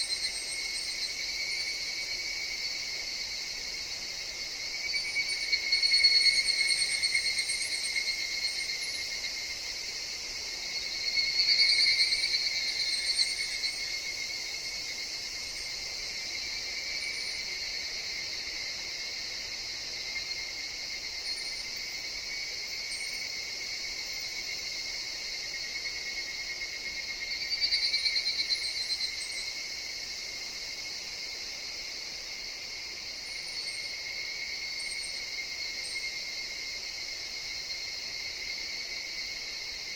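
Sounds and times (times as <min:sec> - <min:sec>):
cicadas chorus: 0:00.0 - 0:39.9
rapid pulsing cicada calls: 0:00.0 - 0:39.9.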